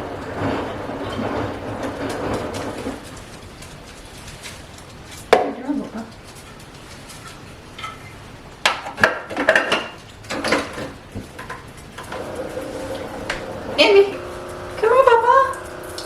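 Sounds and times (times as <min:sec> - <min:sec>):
kitchenware clattering: 0:00.2 - 0:14.6.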